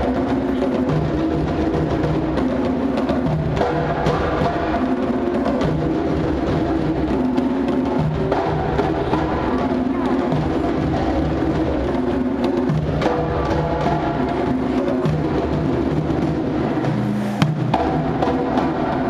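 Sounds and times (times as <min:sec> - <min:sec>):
percussion-driven music: 0:00.0 - 0:19.0.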